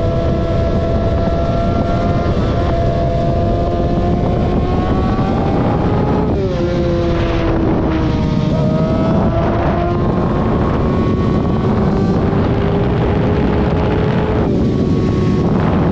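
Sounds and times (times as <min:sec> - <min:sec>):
wind noise on microphone: 0:00.0 - 0:15.9.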